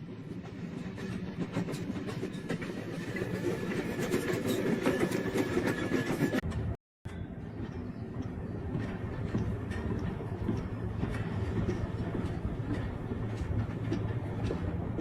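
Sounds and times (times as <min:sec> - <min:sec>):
train rumbling with wheel clicks: 0:00.0 - 0:15.0.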